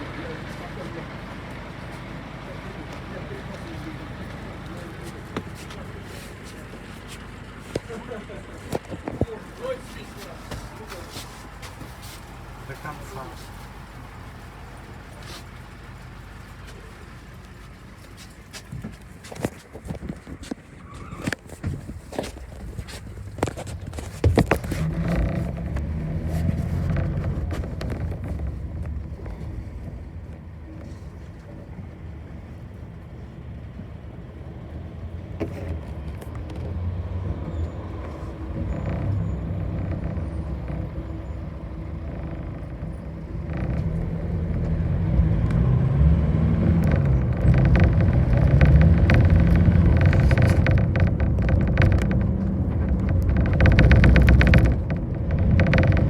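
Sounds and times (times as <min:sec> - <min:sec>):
bus engine running: 0:00.0 - 0:56.0.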